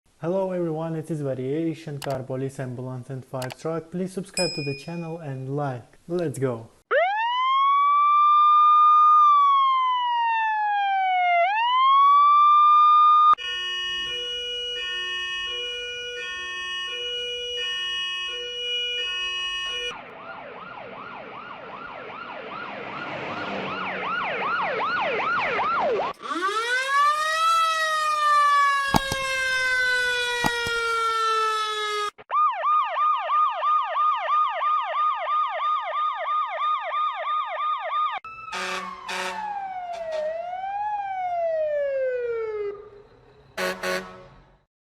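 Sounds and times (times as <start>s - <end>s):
emergency vehicle sirens: 6.9s - 44.6s.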